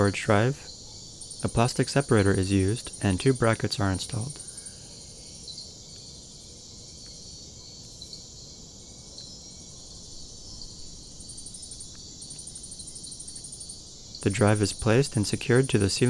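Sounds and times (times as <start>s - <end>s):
cricket chirping: 0.0s - 16.0s
steady low hiss: 0.0s - 16.0s.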